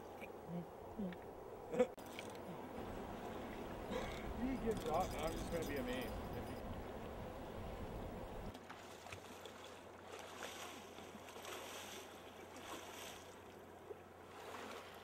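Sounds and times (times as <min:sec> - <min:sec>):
river water splashing: 0:02.0 - 0:15.0.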